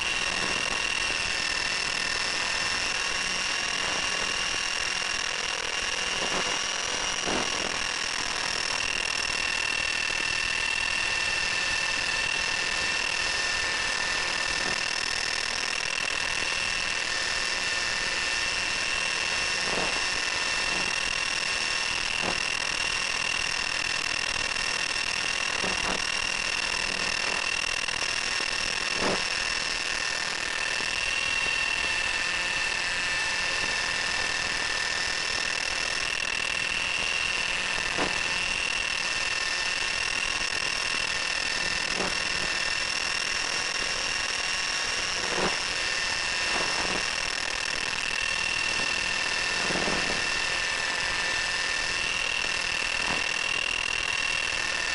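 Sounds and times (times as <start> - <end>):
electric motor high whine: 0.0 - 54.9.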